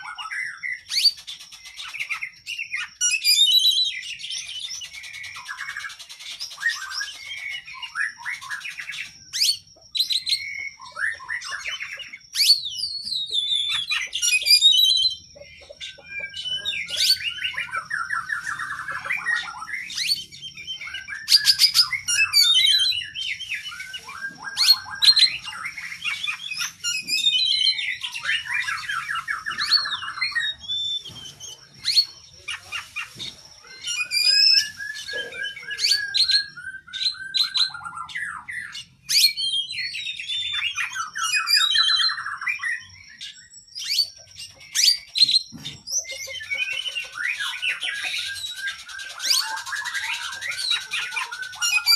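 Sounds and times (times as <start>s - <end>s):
bird singing varied song: 0.0s - 51.9s.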